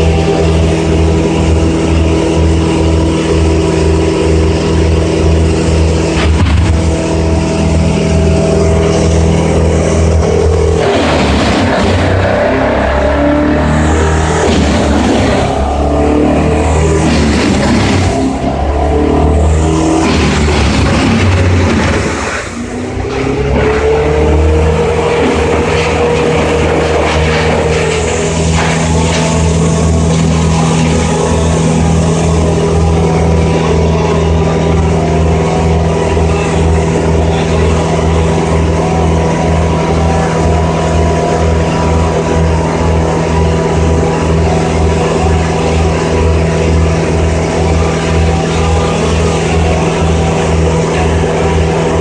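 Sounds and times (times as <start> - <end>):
engine running with low throb: 0.0 - 52.0.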